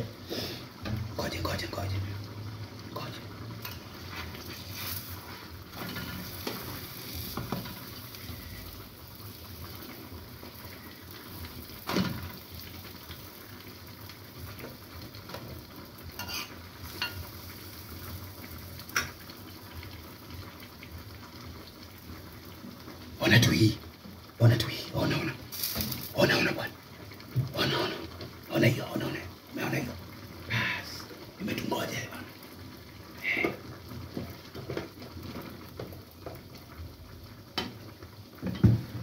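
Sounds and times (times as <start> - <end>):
food sizzling in frying pans: 0.0 - 39.0.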